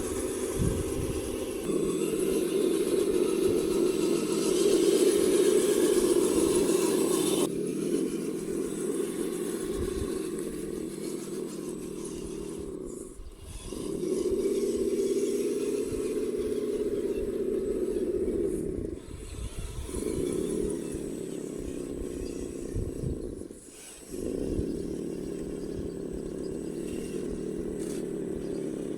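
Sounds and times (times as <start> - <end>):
model motors whining: 0.0 - 28.9.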